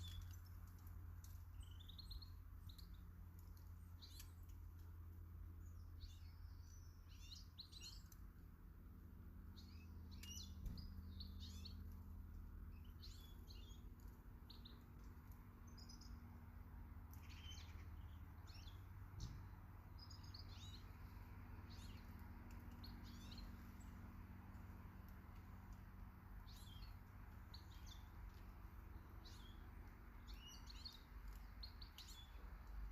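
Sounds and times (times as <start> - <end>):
faint low hum: 0.0 - 32.9
small birds chirping: 0.0 - 32.9.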